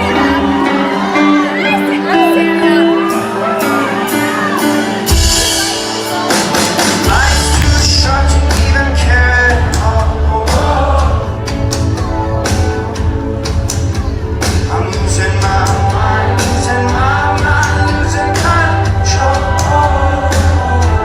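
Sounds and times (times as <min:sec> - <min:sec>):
person singing: 0:00.0 - 0:13.2, 0:13.9 - 0:21.0
live rock band playing: 0:00.0 - 0:21.0
heavy bass: 0:03.3 - 0:21.0.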